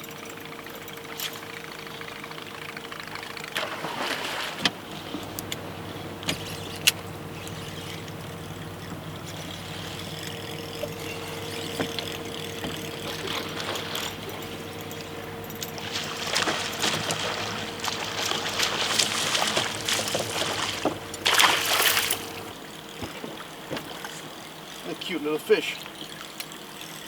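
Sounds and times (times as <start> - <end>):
boat engine idling: 0.0 - 27.0
water splashing: 3.1 - 27.0.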